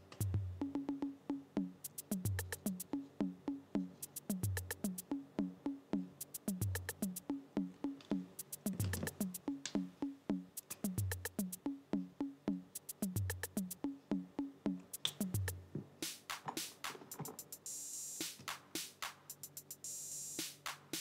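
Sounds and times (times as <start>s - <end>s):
lofi music with drum-machine beat: 0.0s - 21.0s.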